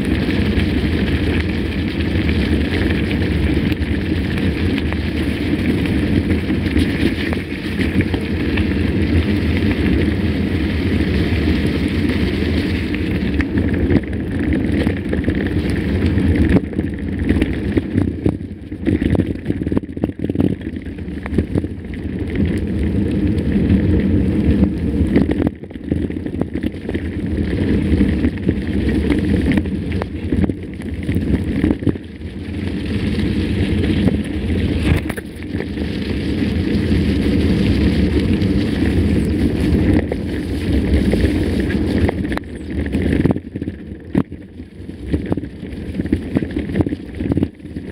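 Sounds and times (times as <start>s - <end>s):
bike rattling and knocking: 0.0s - 47.9s
wind buffeting microphone: 0.0s - 47.9s.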